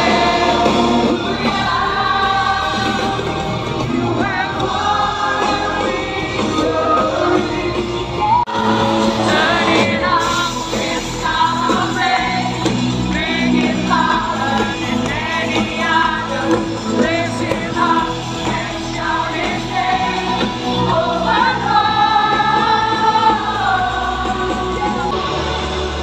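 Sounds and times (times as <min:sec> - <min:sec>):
lead vocal singing: 0:00.0 - 0:26.0
live rock band playing: 0:00.0 - 0:26.0.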